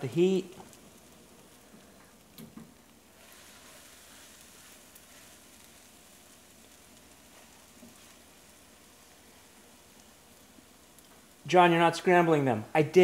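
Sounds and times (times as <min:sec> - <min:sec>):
eggs sizzling in a pan: 0:00.0 - 0:13.0.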